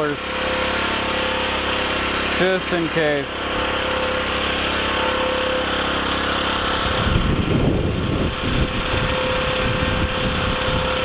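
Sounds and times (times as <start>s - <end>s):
small generator engine running: 0.0s - 11.0s.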